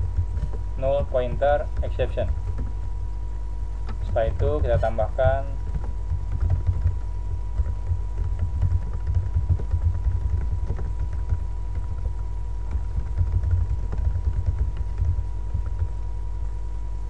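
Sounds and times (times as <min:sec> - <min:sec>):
faint electrical tone: 0:00.0 - 0:17.0.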